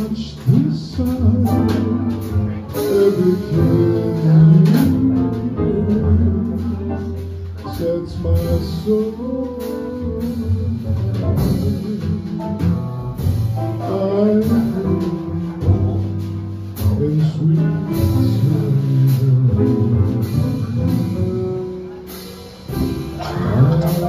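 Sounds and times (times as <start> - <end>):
man singing: 0.0 - 22.0, 23.0 - 24.0
jazz combo playing a ballad: 0.0 - 24.0.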